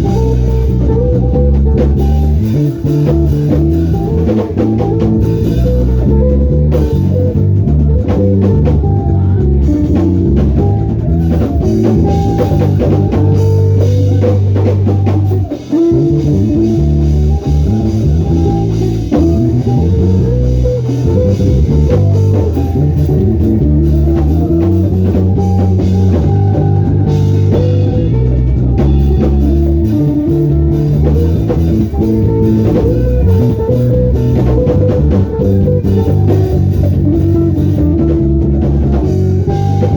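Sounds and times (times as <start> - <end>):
band playing instrumental groove: 0.0 - 39.9
bass guitar line: 0.0 - 39.9.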